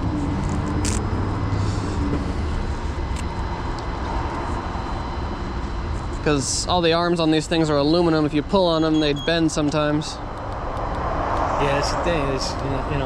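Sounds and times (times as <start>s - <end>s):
vehicle engine idling: 0.0s - 10.8s.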